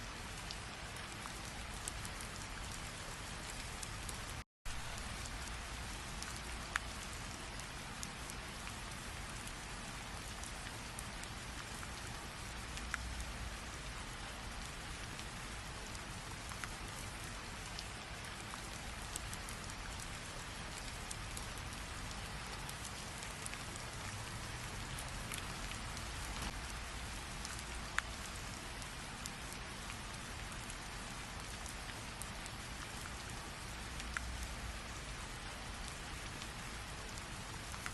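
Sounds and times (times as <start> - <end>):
raindrops ticking on a surface: 0.0 - 37.9
steady rain falling: 0.0 - 37.9.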